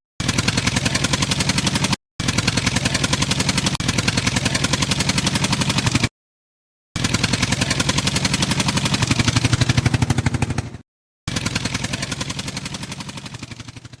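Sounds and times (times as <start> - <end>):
rapid chugging engine: 0.2 - 6.1, 7.0 - 14.0.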